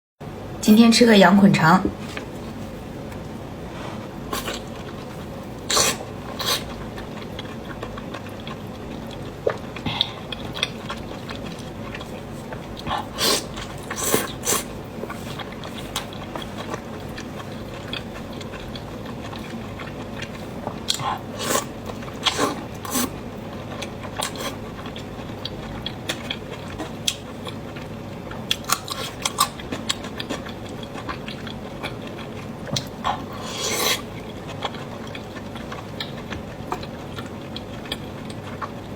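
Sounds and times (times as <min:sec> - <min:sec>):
biting and chewing: 0:04.2 - 0:38.9.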